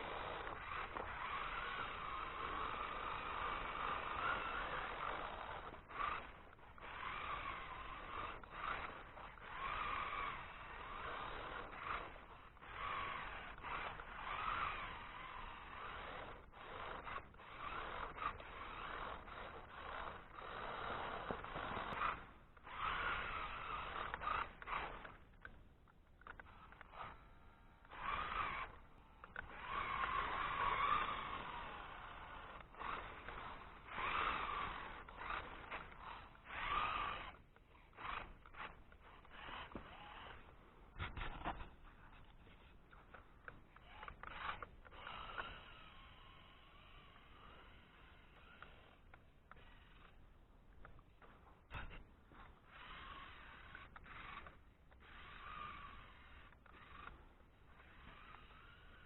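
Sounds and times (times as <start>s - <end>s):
toy car electric motor whining: 0.0s - 59.0s.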